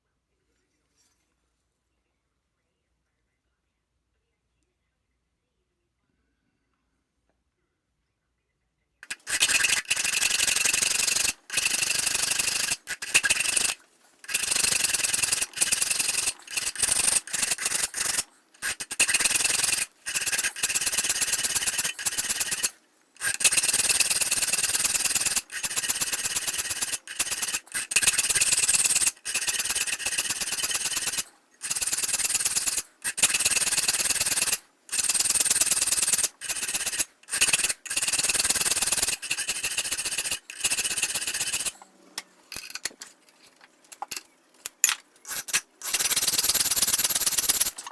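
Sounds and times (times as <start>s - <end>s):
steel file scraping metal: 9.0s - 47.9s.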